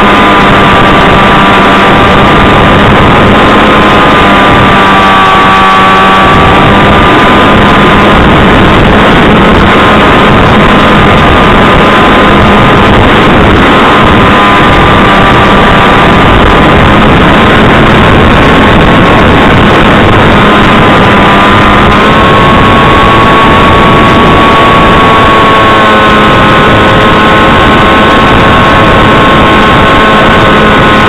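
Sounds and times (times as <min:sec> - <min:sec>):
electric motor and propeller whine: 0:00.0 - 0:31.0
rushing wind noise: 0:00.0 - 0:31.0.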